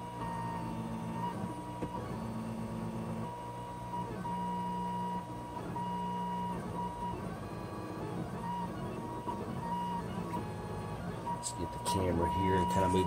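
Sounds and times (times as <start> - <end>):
printer stepper motors whining: 0.0 - 13.0.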